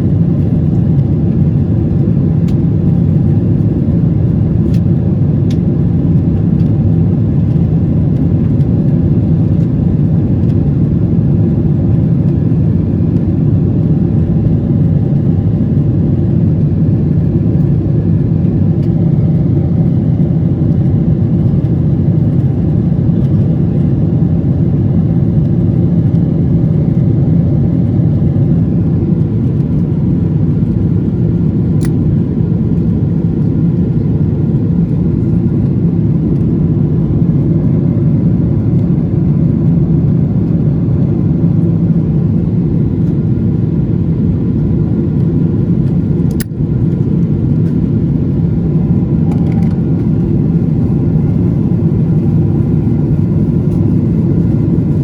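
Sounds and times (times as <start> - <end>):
aircraft engines rumbling: 0.0 - 55.0.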